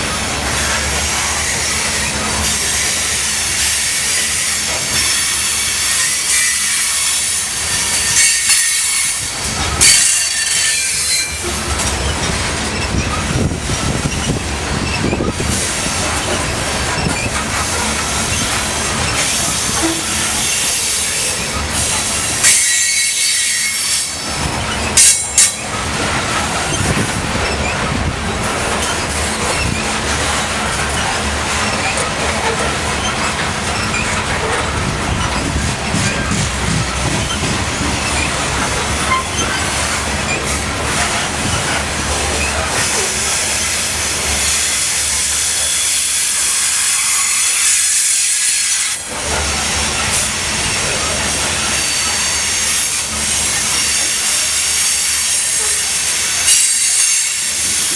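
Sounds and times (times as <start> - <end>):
train wheels rumbling over rail: 0.0 - 57.9
wheel flange squeal: 0.5 - 28.0, 28.8 - 57.9.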